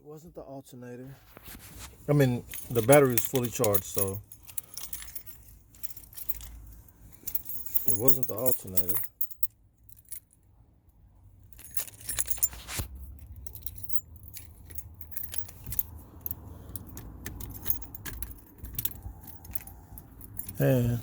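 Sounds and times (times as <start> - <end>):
keys jangling: 2.4 - 10.5, 11.4 - 21.0.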